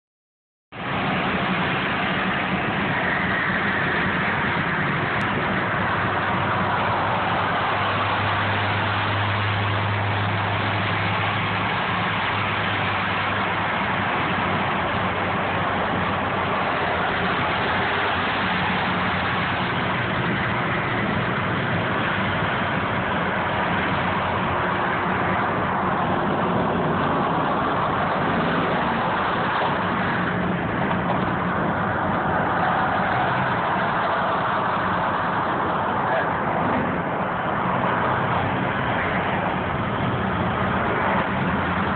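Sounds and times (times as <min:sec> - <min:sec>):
low engine drone: 0:00.7 - 0:41.9
tyre and wind noise: 0:00.8 - 0:41.9.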